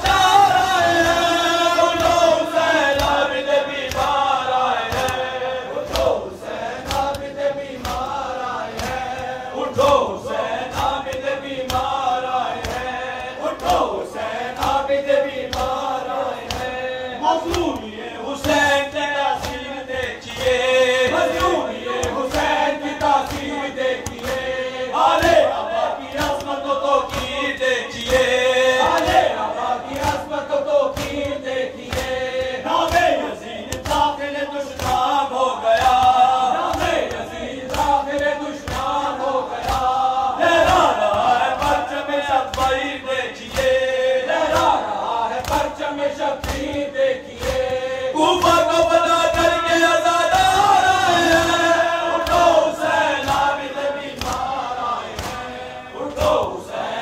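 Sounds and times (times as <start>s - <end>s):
hands beating chests: 0.0s - 56.6s
men chanting in unison: 0.0s - 57.0s
person reciting into a microphone: 0.0s - 57.0s.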